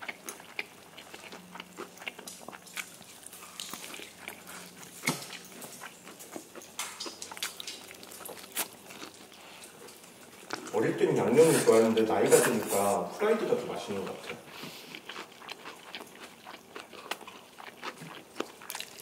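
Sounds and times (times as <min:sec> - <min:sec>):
chewing crispy fried chicken: 0:00.0 - 0:13.0, 0:13.6 - 0:19.0.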